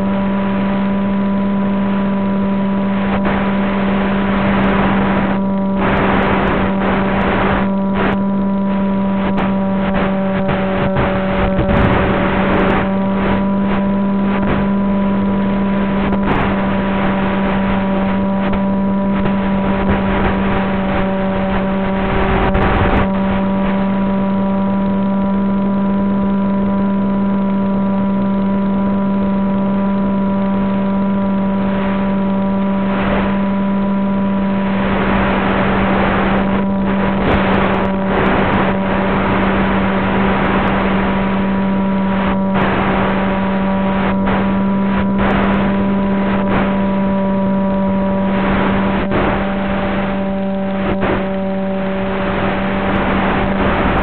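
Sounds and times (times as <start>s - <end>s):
wind noise rushes: 0.0s - 27.8s, 30.1s - 54.0s
electric motor propeller buzzing: 0.0s - 54.0s.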